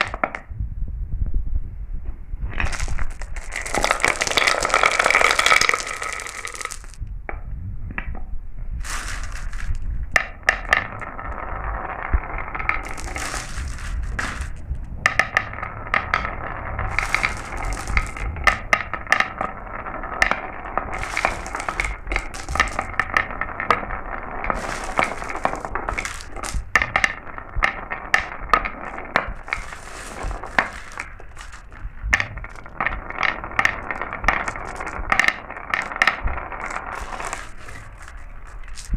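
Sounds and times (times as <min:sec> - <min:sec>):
marbles clicking and clinking: 0:00.0 - 0:00.4, 0:02.5 - 0:07.0, 0:08.8 - 0:38.9
marbles rolling down track: 0:00.0 - 0:00.5, 0:02.4 - 0:07.0, 0:08.7 - 0:38.9.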